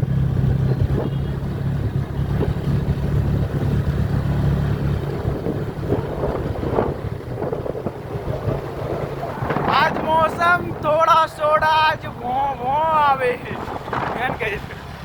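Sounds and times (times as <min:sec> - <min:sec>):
motorcycle engine running: 0:00.0 - 0:13.1
wind buffeting microphone: 0:00.0 - 0:15.0.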